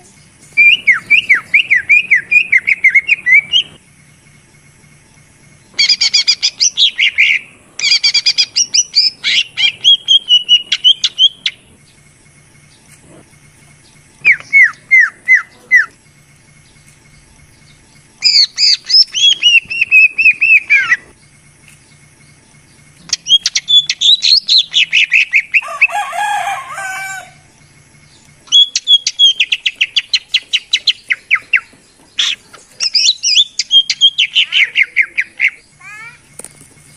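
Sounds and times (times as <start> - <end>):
bird whistling song: 0.0 - 3.8, 5.6 - 12.0, 13.8 - 26.5, 27.1 - 36.9
harsh scratchy bird chatter: 0.0 - 3.8, 5.5 - 36.9.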